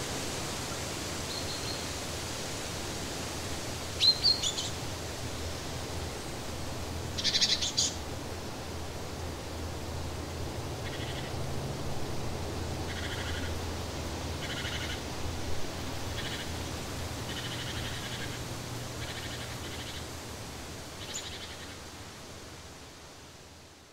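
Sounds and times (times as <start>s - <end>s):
background hiss: 0.0s - 23.9s.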